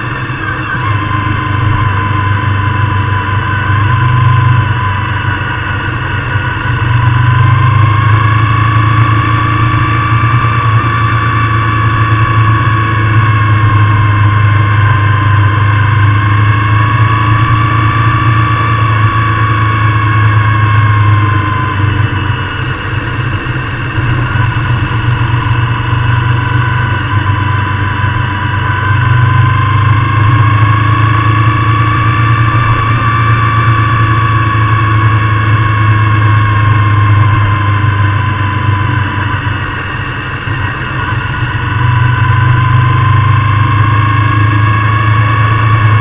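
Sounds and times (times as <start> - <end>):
motorcycle engine riding: 0.0 - 46.0.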